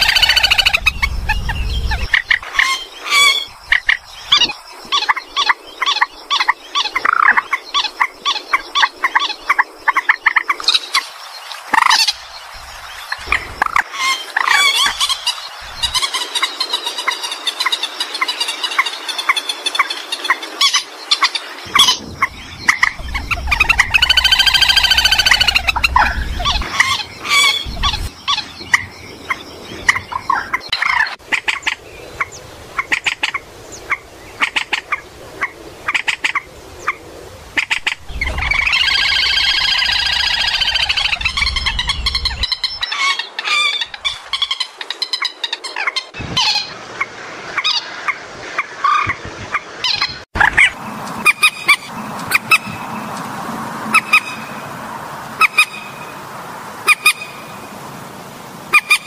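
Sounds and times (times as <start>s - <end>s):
bird loud cackling calls: 0.0s - 10.8s, 13.1s - 37.0s, 37.6s - 53.0s, 53.9s - 54.6s.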